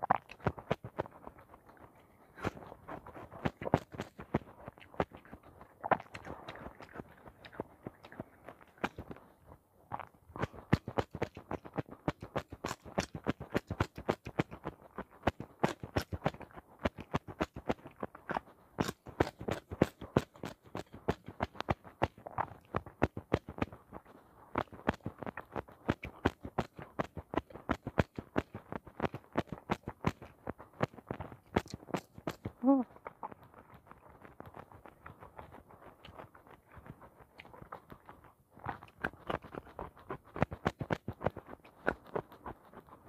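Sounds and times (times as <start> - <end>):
person chewing crunchy vegetables: 0.0 - 43.0.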